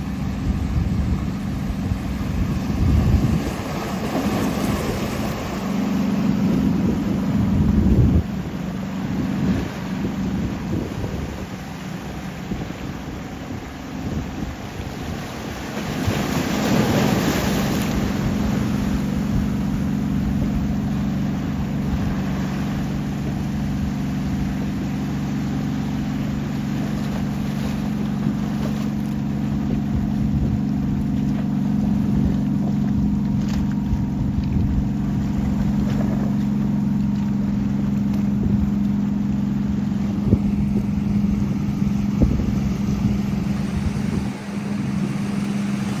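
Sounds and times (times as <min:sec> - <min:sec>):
boat engine running: 0:00.0 - 0:46.0
waves: 0:00.0 - 0:46.0
wind: 0:00.0 - 0:46.0.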